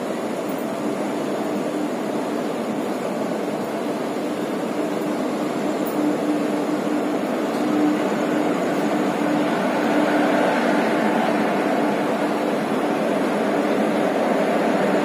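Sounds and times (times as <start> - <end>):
faint steady hum: 0.0 - 15.0
train wheels rumbling on rails: 0.0 - 15.0.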